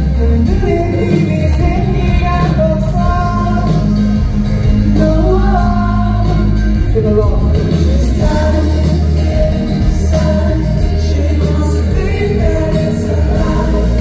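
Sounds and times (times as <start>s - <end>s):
guitar: 0.0s - 14.0s
live rock band playing: 0.0s - 14.0s.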